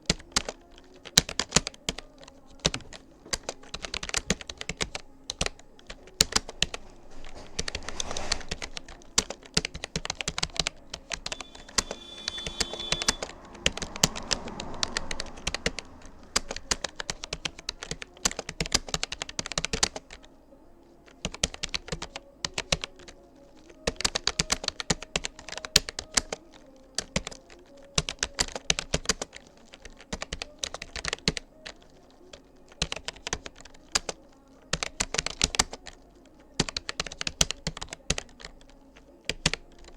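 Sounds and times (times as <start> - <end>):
computer keyboard keystroke clicks: 0.0 - 6.8, 7.6 - 20.2, 21.1 - 36.0, 36.6 - 39.9.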